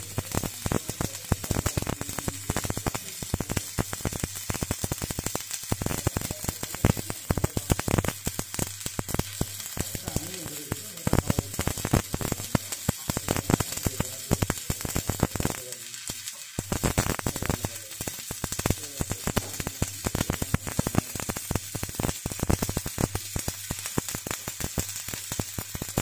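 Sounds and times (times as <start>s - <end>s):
welding arc crackling and sizzling: 0.0s - 26.0s.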